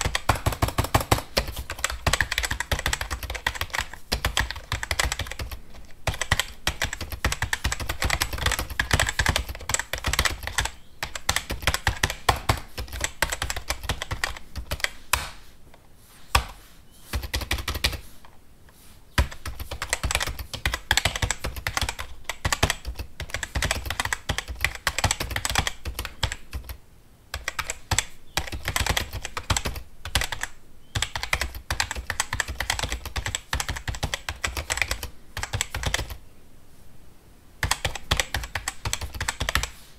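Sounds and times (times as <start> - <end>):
fast typing on computer keyboard: 0.0 - 15.3, 17.1 - 18.0, 19.2 - 36.2, 37.6 - 39.8.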